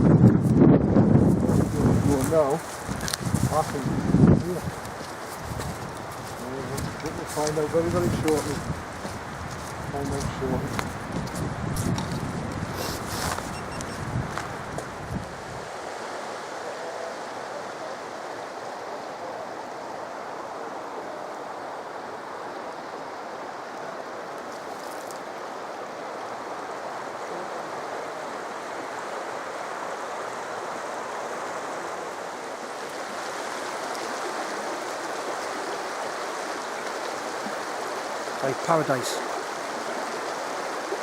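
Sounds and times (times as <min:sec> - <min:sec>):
stream rushing water: 0:00.0 - 0:41.0.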